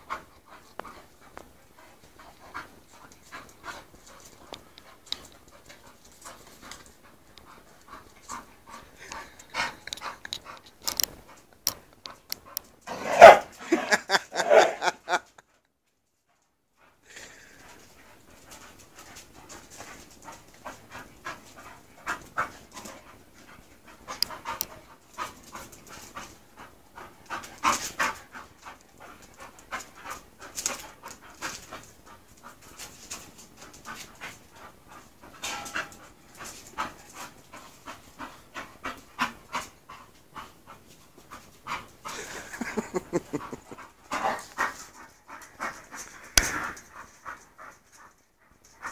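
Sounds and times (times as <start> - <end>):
dogs panting hard: 0.0 - 15.4, 16.7 - 48.9.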